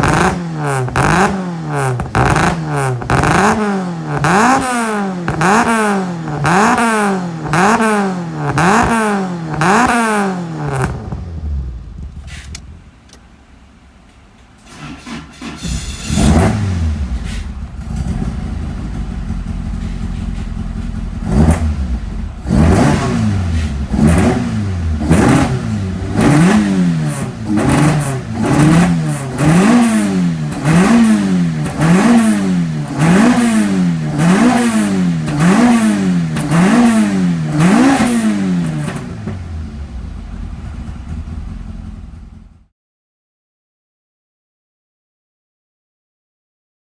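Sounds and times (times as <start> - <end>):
car engine idling and revving: 0.0 - 42.7.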